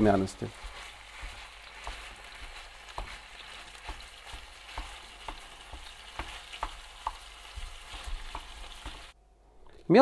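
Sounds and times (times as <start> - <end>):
meat sizzling in a frying pan: 0.0 - 9.2
spatula tapping and scraping pan: 0.0 - 9.2.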